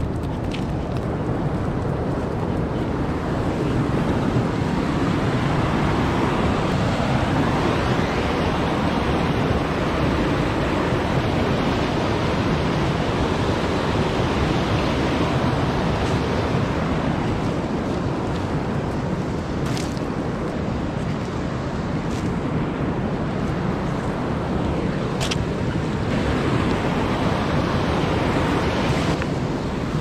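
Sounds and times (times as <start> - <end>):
river rushing: 2.6 - 30.0.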